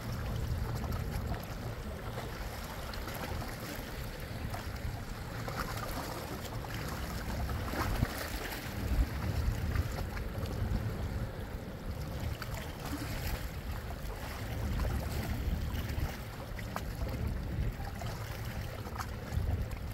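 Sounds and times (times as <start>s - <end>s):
boat engines rumbling: 0.0s - 19.9s
wind buffeting microphone: 0.0s - 19.9s.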